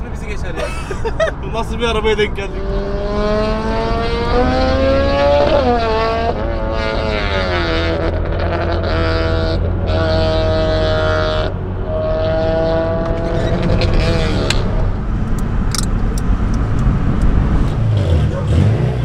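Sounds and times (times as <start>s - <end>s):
low road rumble: 0.0s - 19.0s
car engine accelerating hard: 1.0s - 19.0s.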